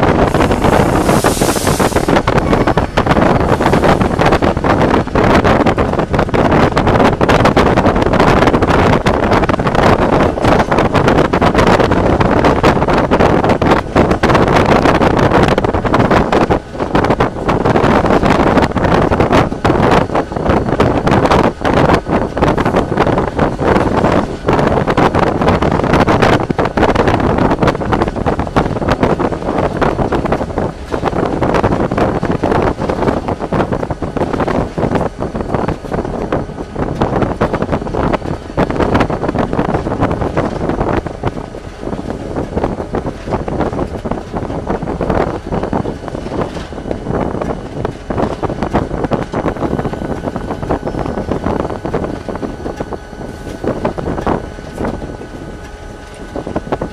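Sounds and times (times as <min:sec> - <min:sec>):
diesel locomotive running: 0:00.0 - 0:56.9
wheel and rail noise: 0:00.0 - 0:56.9
wind buffeting microphone: 0:00.0 - 0:56.9.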